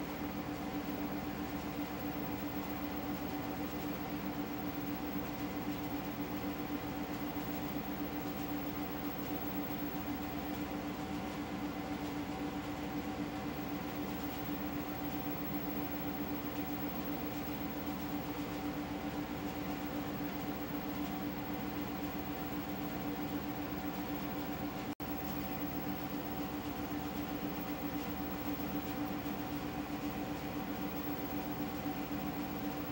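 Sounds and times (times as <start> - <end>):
machine hum with hiss: 0.0 - 32.9.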